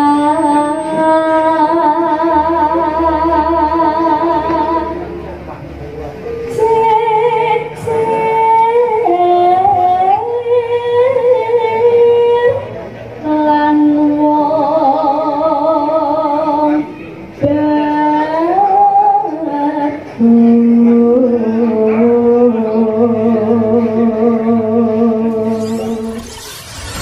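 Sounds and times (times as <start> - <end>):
woman singing with vibrato: 0.0 - 5.1, 6.4 - 27.0.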